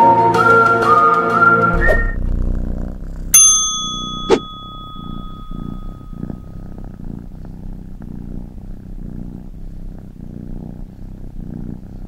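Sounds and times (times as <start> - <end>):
cat purring: 1.9 - 12.0.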